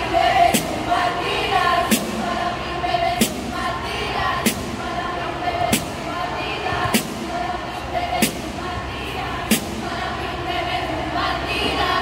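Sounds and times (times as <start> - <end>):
young voices chanting in unison: 0.0 - 12.0.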